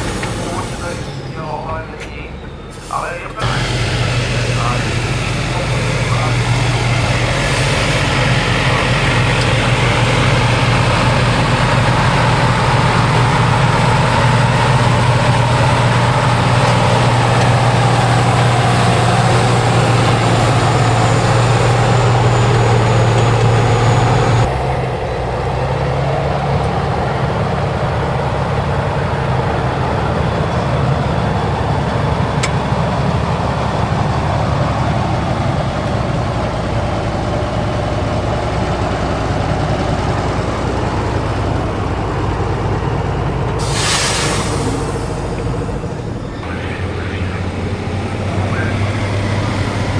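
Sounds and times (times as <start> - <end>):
truck engine low drone: 0.0 - 49.9.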